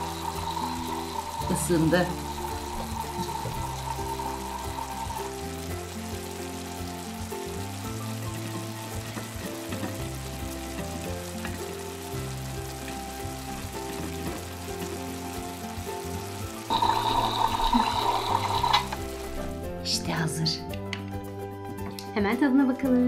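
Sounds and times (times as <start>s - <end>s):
electronic frying sizzle: 0.0s - 20.0s
faint steady sizzling hiss: 0.0s - 20.5s
background music with held notes: 0.0s - 23.0s.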